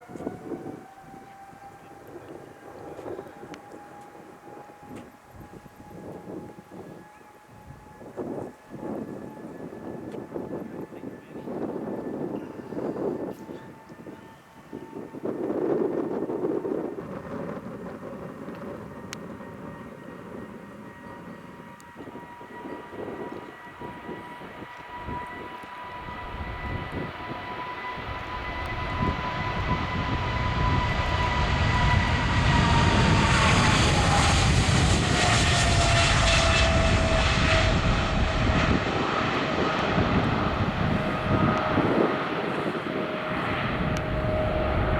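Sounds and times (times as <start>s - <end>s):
high engine whine: 0.0s - 44.9s
jet engines roaring at takeoff: 0.0s - 44.9s.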